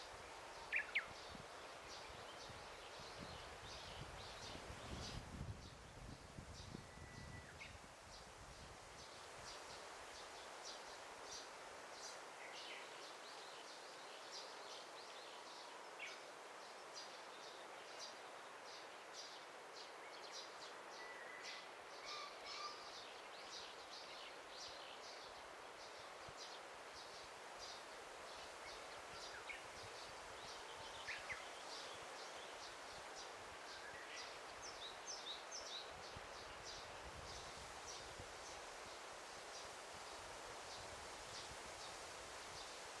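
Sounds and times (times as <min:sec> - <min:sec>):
soft forest hiss: 0:00.0 - 0:43.0.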